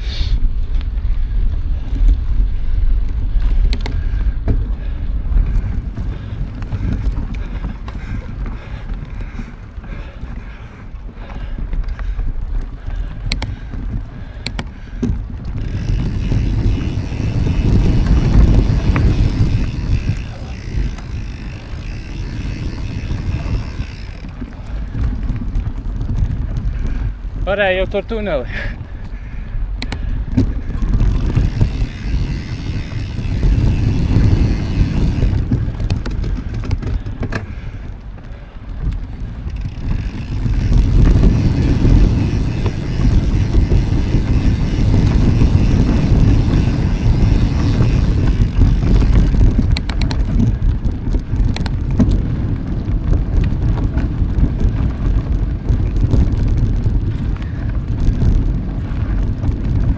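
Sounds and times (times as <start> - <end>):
bike tyre and ride noise: 0.0 - 59.9
wind rumbling on microphone: 0.0 - 59.9.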